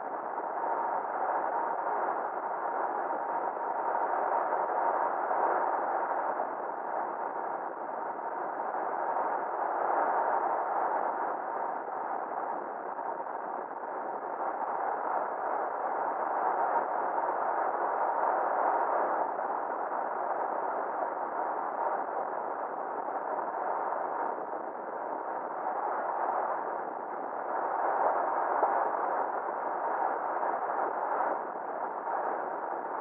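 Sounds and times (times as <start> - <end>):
faint whine: 0.0 - 33.0.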